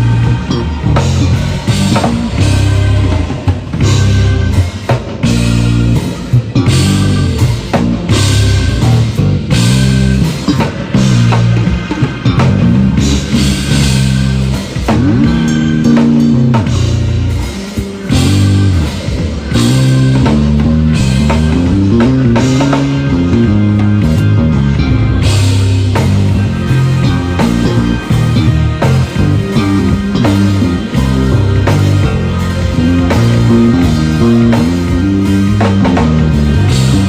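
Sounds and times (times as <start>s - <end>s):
drum kit: 0.0s - 37.0s
electric bass guitar with sliding notes: 0.0s - 37.0s.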